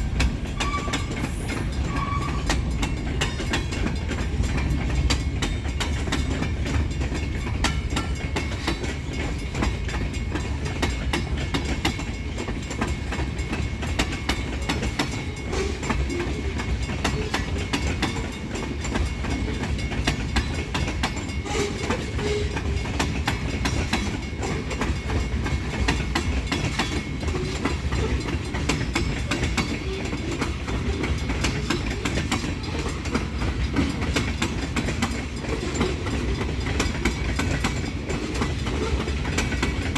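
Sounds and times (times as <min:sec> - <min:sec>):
train cars rumbling past: 0:00.0 - 0:39.9
wheels clicking over rail joints: 0:00.0 - 0:39.9.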